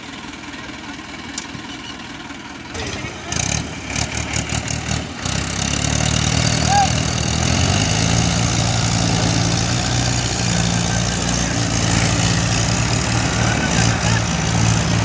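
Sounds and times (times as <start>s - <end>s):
diesel tractor engines running: 0.0s - 15.0s.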